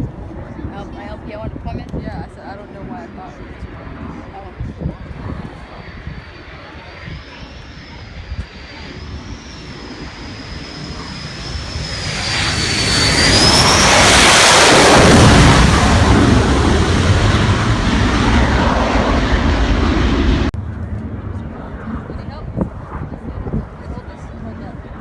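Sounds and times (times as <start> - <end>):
jet aircraft passing: 0.0 - 25.0.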